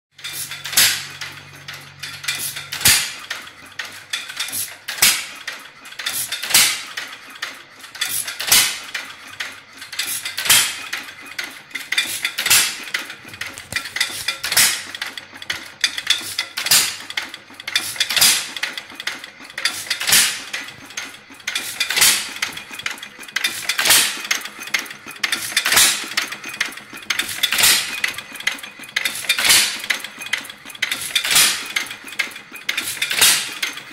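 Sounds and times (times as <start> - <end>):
valve gear clicking: 0.2 - 33.8.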